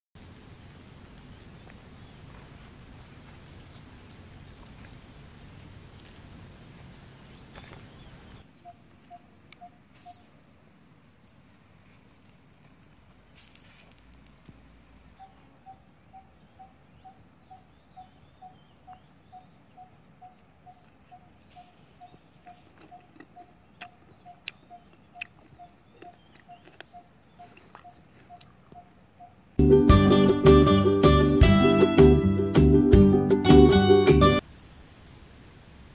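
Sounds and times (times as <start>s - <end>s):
lower insect call: 0.2s - 29.6s, 33.7s - 35.9s
high insect chirp: 0.2s - 29.7s, 33.6s - 35.9s.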